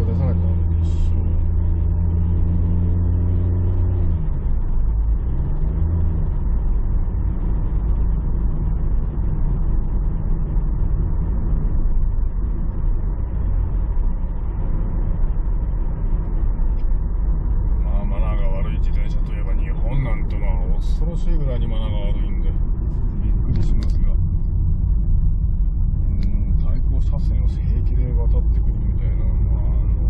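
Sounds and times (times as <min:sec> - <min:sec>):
car engine hum: 0:00.0 - 0:30.0
road and tyre rumble: 0:00.0 - 0:30.0.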